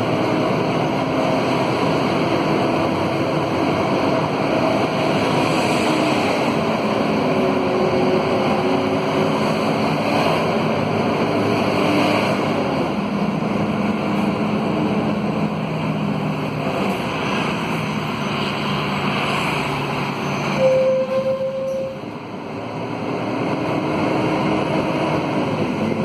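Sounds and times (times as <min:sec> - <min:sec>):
bus engine howling hum: 0:00.0 - 0:26.0
road and cabin noise: 0:00.0 - 0:26.0.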